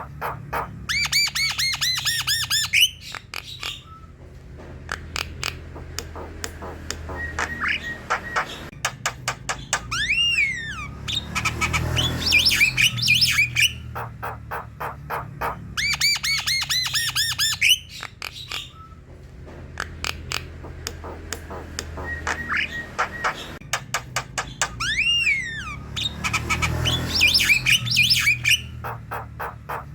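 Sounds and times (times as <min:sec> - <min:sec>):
bird singing varied song: 0:00.0 - 0:29.9.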